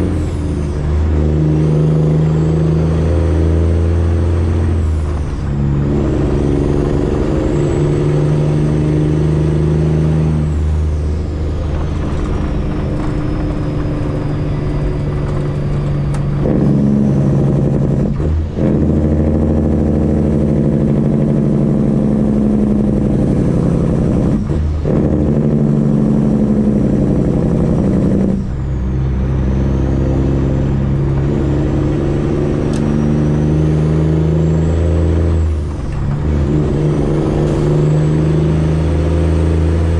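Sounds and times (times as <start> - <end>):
diesel truck engine under load: 0.0 - 39.9.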